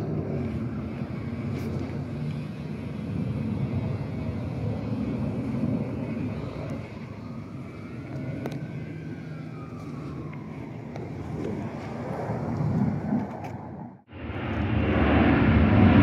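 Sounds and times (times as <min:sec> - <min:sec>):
aircraft engine rumble: 0:00.0 - 0:16.0.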